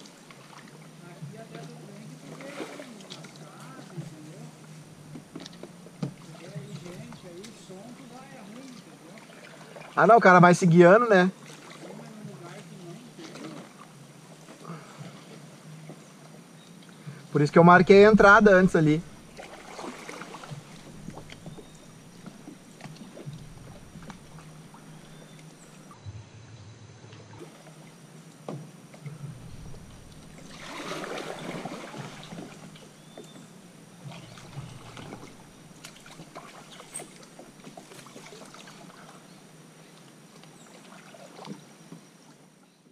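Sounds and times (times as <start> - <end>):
kayak paddle splashing: 0.0 - 26.4, 27.1 - 42.6.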